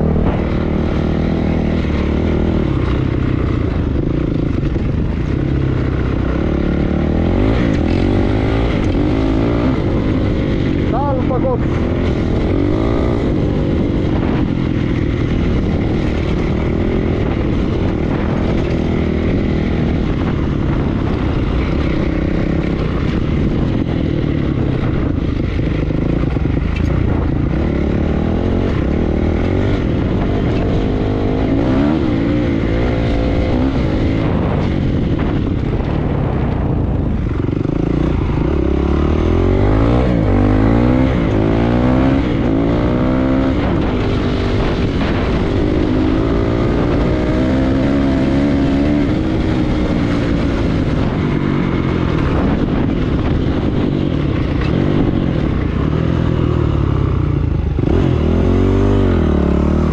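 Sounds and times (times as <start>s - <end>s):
dirt bike engine revving: 0.0s - 56.7s, 57.8s - 59.9s
wind noise: 0.0s - 59.9s.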